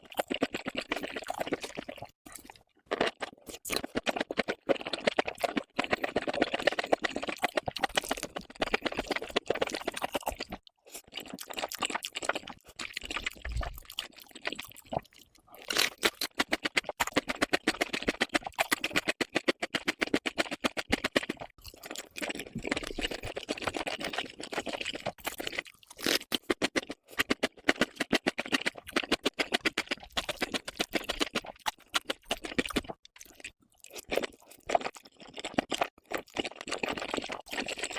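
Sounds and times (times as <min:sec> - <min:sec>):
person chewing crunchy food: 0:00.0 - 0:37.9.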